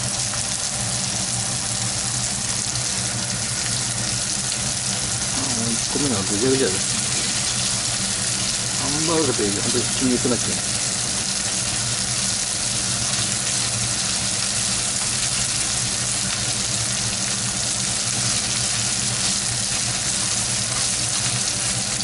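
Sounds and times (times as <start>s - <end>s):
patties sizzling in oil: 0.0s - 22.0s.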